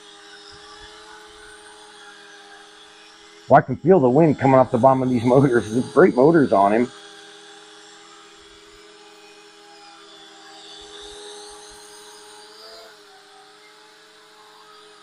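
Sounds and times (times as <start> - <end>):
quadcopter propellers buzzing: 0.0 - 15.0.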